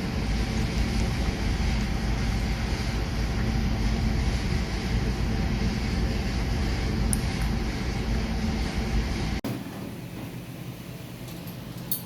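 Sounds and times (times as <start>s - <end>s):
low rumbling noise: 0.0s - 11.4s
faint hum: 0.0s - 12.0s.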